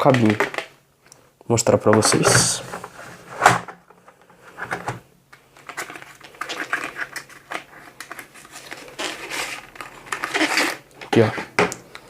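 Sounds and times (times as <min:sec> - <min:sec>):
cable and cardboard rustling: 0:00.0 - 0:00.7, 0:01.7 - 0:11.7.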